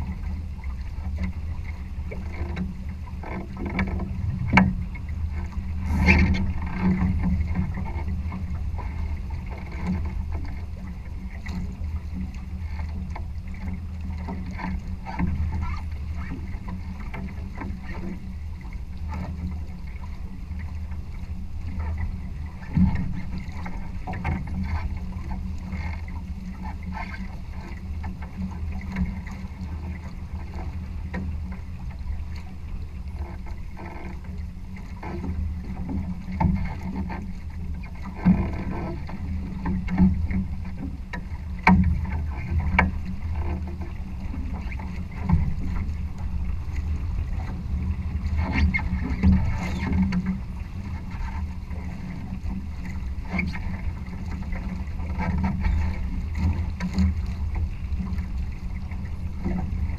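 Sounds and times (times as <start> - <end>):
boat slapping into waves: 0.0 - 59.9
water and wind rumbling on hull: 0.0 - 59.9.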